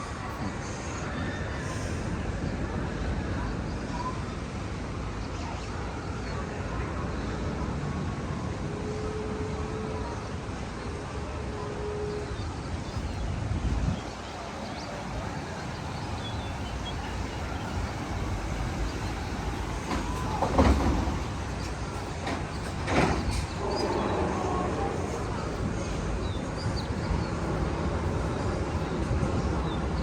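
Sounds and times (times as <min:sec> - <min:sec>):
roller coaster rail rumble: 0:00.0 - 0:30.0.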